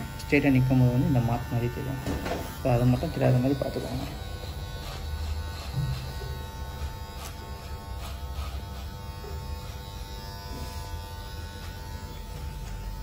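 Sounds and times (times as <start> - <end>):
electric hair clipper buzzing: 0.0 - 13.0.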